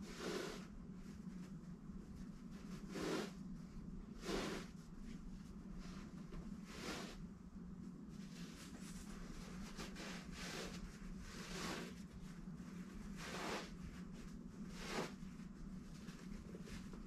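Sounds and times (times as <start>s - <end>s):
material rustling: 0.0s - 17.0s
steady low hum: 0.0s - 17.0s.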